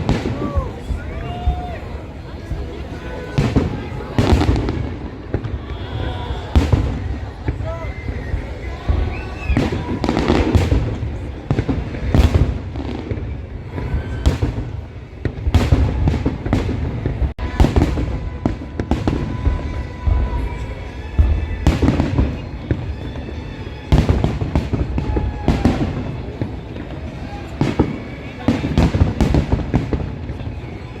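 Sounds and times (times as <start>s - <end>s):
fireworks bursting with loud bangs: 0.0s - 31.0s.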